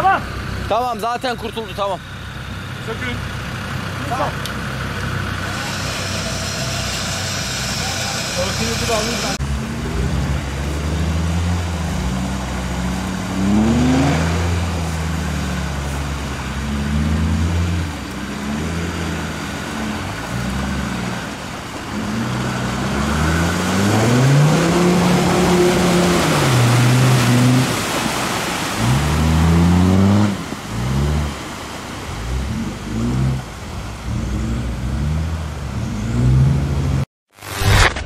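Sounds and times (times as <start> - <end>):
tyres churning mud and water: 0.0 - 37.0
diesel engine revving: 0.0 - 37.8.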